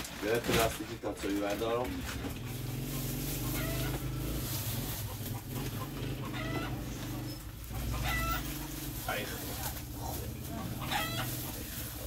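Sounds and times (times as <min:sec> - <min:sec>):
chickens clucking: 0:00.5 - 0:12.0.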